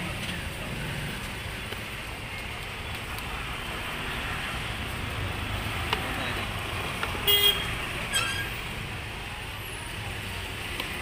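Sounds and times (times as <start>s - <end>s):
outdoor hubbub: 0.0s - 11.0s
passing road traffic: 0.0s - 11.0s.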